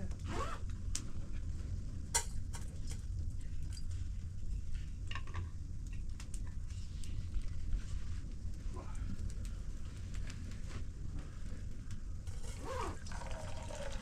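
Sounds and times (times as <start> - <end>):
steady low rumble: 0.0 - 12.4.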